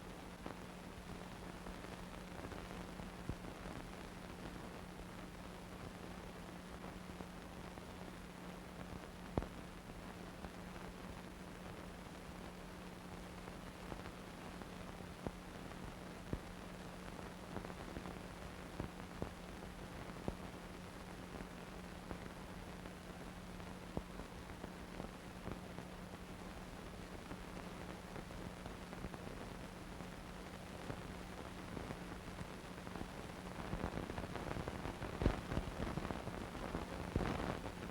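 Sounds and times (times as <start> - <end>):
crackles and pops: 0.0 - 37.9
steady film hiss: 0.0 - 37.9.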